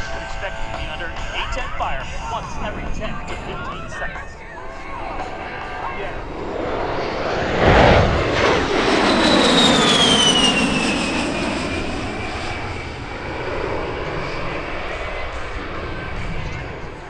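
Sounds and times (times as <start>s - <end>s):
jet engines passing low: 0.0s - 17.0s.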